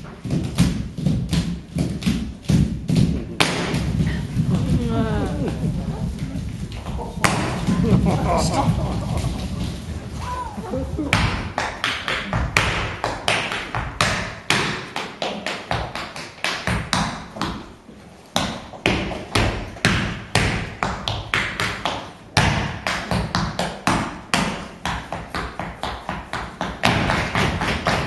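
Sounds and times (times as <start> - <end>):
tap shoes on stage floor: 0.0 - 28.0.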